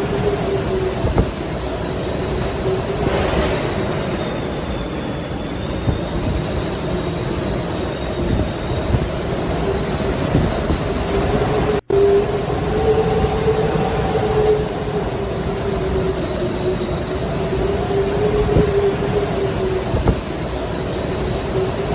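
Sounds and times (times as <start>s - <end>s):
low drone: 0.0s - 21.9s
roaring wind: 0.0s - 21.9s.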